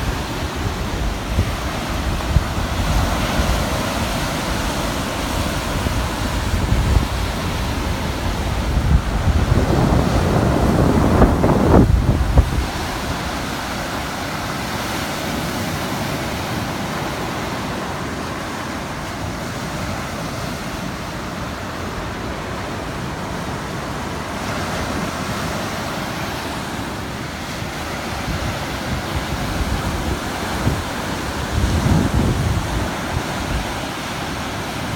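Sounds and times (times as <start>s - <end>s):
wind buffeting microphone: 0.0s - 26.0s, 27.2s - 34.9s
surf washing onto beach: 0.0s - 34.9s.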